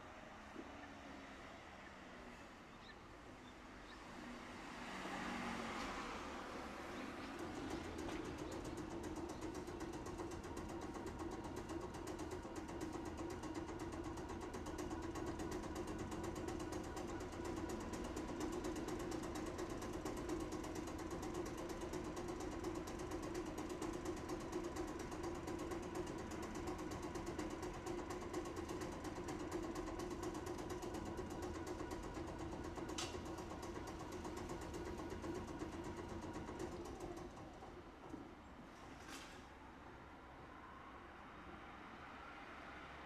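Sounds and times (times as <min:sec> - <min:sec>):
tram machinery droning and chattering: 0:00.0 - 0:43.0.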